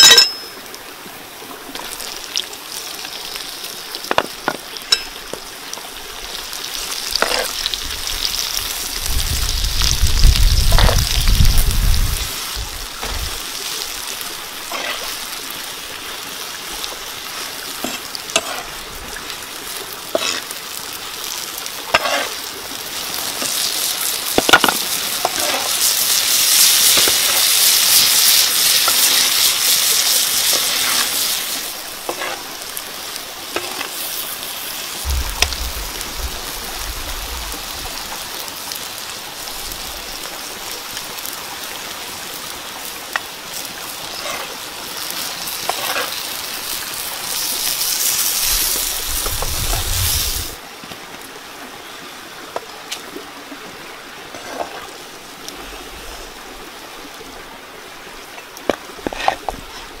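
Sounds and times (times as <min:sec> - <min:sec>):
sauce sizzling in a frying pan: 0:01.7 - 0:50.6.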